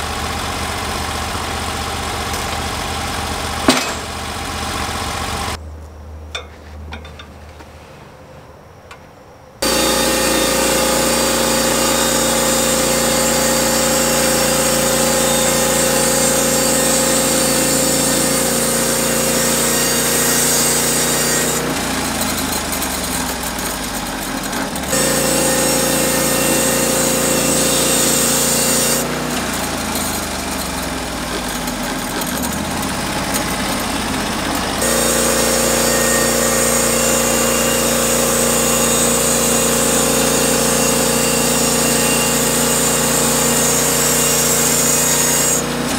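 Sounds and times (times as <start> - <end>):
band sawmill running: 0.0 - 5.6, 9.6 - 45.9.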